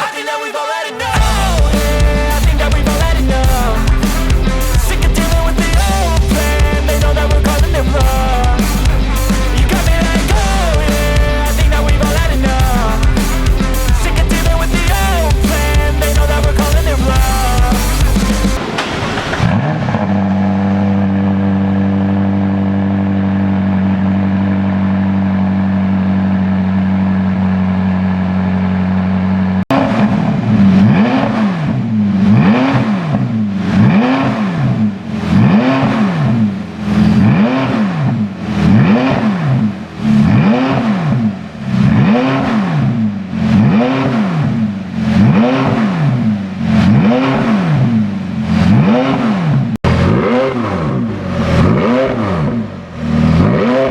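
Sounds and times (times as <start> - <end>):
car engine revving: 1.0 - 53.9
car engine idling: 1.2 - 51.8.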